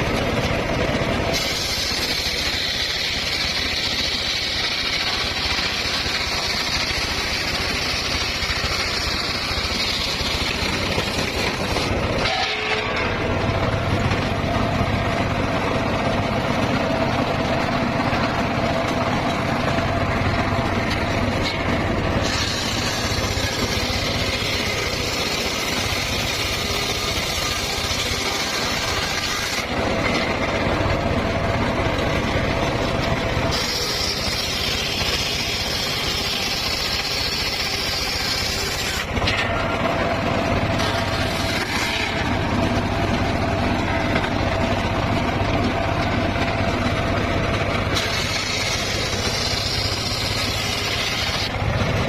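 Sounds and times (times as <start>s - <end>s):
high saw blade whine: 0.0s - 52.0s
sawmill cutting timber: 0.0s - 52.0s.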